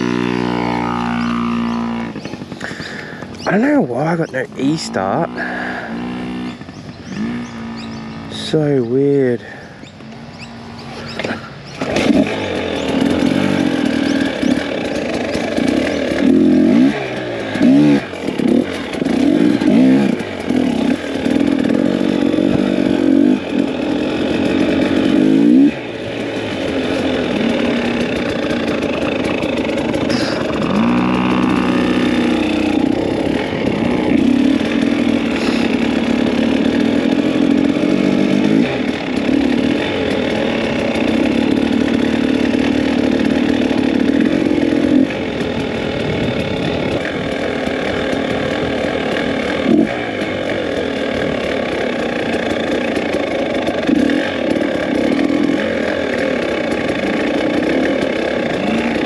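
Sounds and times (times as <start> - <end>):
two-stroke dirt bike engine revving: 0.0 - 59.0.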